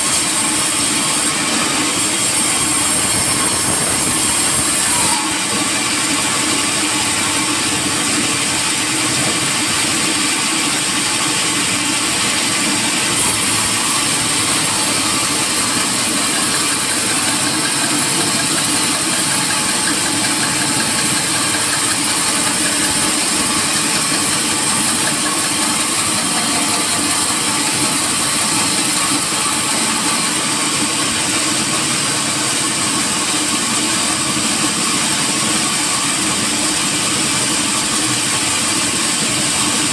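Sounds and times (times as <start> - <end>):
sawmill machinery din: 0.0 - 39.9.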